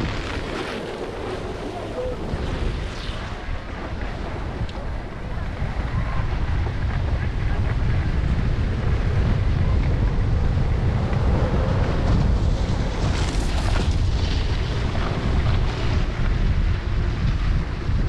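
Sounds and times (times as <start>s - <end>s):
skis scraping snow: 0.0s - 18.0s
wind noise on microphone: 0.0s - 18.0s.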